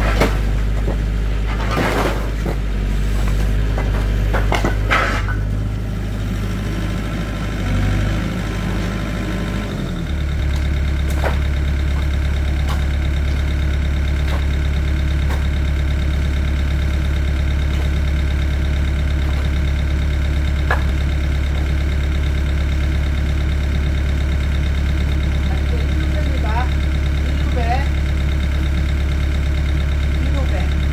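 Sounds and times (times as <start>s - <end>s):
engine idling: 0.0s - 30.9s.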